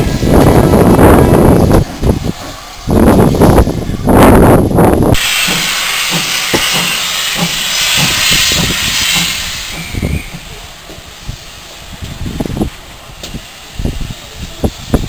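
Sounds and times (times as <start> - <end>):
locomotive steam hiss: 0.0 - 15.0.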